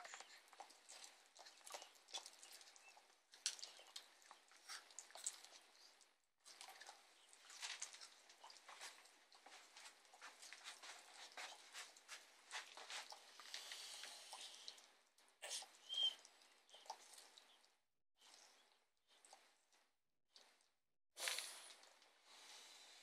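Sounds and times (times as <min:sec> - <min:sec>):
tortoises crunching vegetables: 0:00.0 - 0:19.8, 0:20.4 - 0:22.9.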